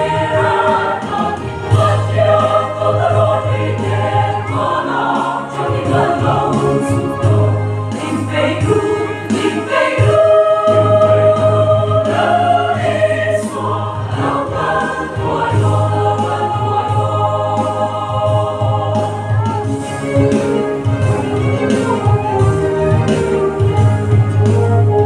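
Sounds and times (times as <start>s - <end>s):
mixed choir singing a hymn: 0.0s - 25.0s.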